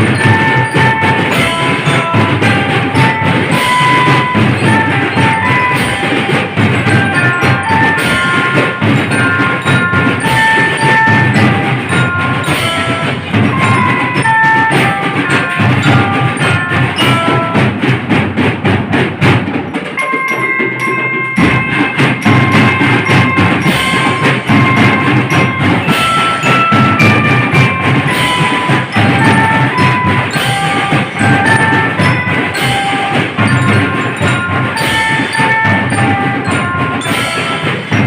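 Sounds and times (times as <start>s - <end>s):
metal mallet bells melody: 0.0s - 38.0s
snare and bass drums: 0.0s - 38.0s.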